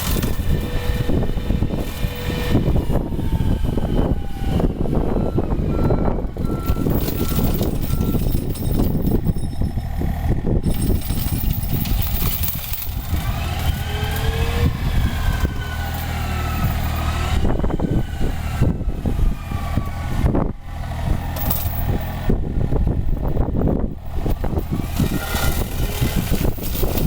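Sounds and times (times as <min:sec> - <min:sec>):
diesel engine under load: 0:00.0 - 0:27.0
hydraulic mulcher working: 0:00.0 - 0:27.0.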